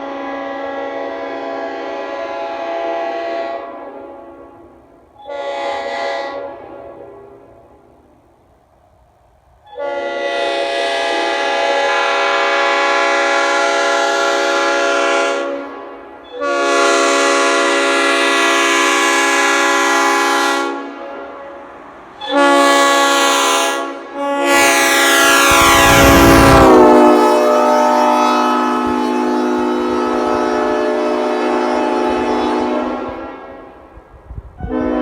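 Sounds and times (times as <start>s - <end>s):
train horn blasts: 0.0s - 7.8s, 9.7s - 34.0s, 34.6s - 35.0s.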